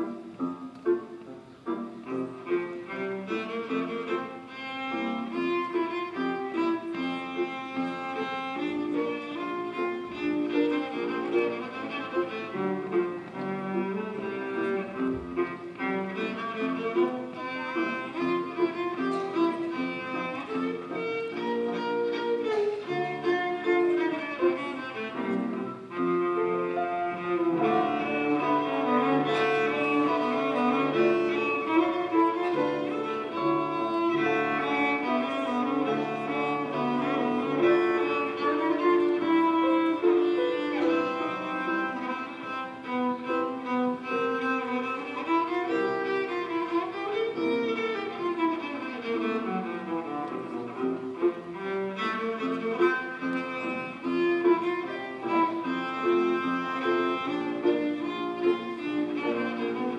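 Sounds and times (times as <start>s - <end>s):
solo cello melody: 0.0s - 59.9s.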